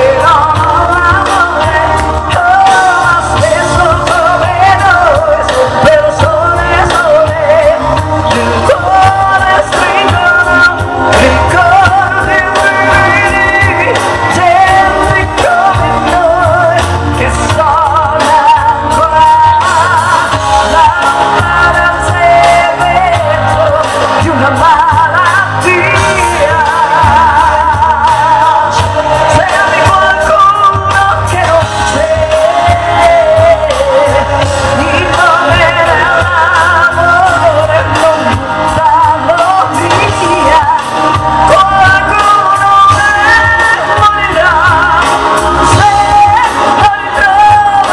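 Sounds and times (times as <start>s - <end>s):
amplified backing music: 0.0s - 47.9s
woman singing into microphone: 0.0s - 47.9s.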